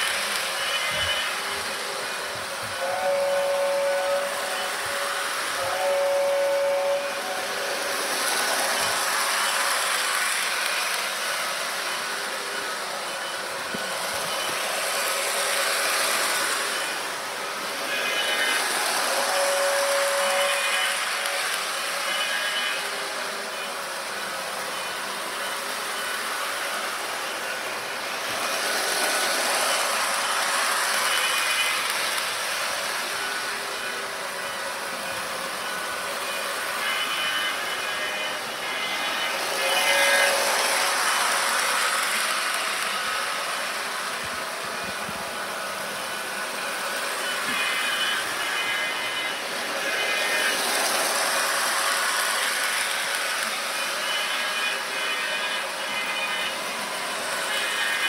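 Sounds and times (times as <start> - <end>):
model trains whirring on rails: 0.0 - 58.0.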